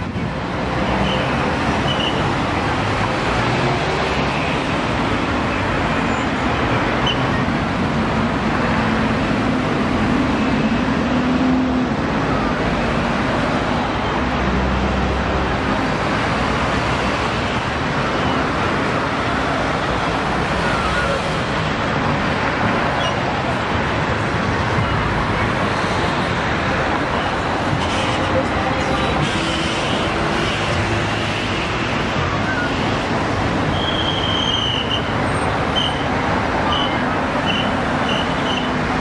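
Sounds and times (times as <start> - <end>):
city street traffic: 0.0 - 39.0.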